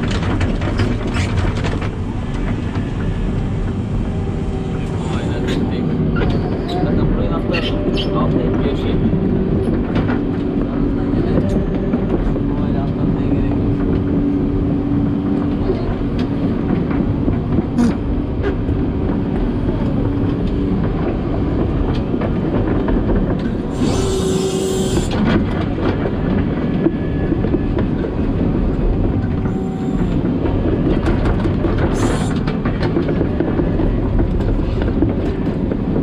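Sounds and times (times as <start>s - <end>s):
vehicle rumbling in motion: 0.0s - 36.0s.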